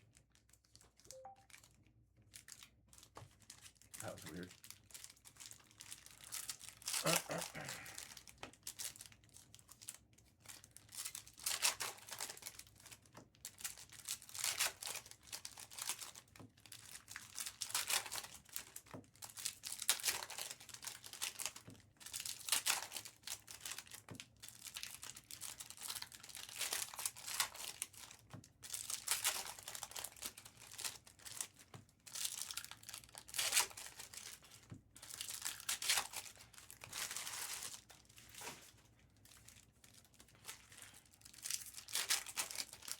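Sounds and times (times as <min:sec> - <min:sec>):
foil wrappers tearing and crinkling: 0:02.3 - 0:42.9.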